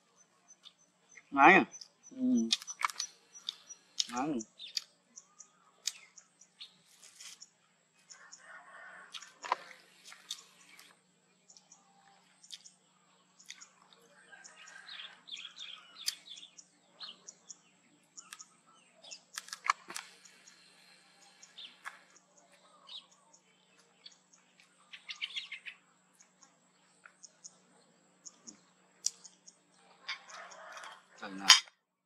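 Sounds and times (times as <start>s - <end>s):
small birds chirping: 0.0s - 31.5s.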